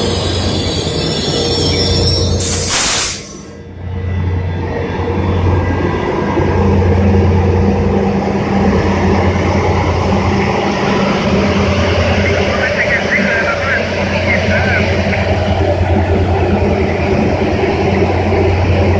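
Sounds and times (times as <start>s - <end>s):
locomotive engine droning: 0.0s - 18.9s.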